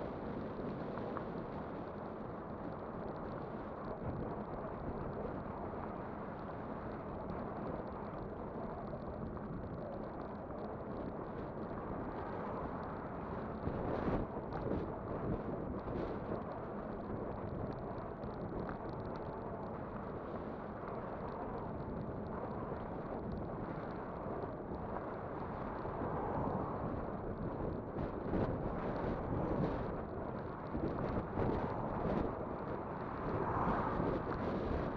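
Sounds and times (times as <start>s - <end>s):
wind rushing over microphone: 6.8s - 34.9s.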